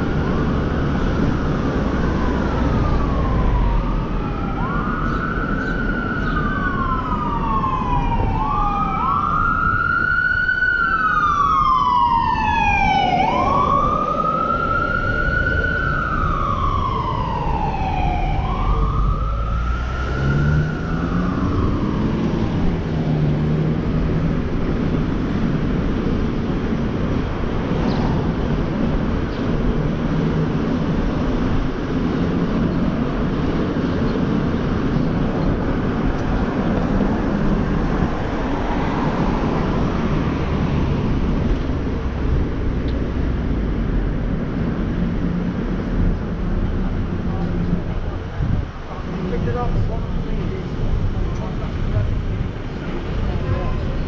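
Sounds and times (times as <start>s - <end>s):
city traffic noise: 0.0s - 54.0s
emergency siren wailing: 0.0s - 54.0s.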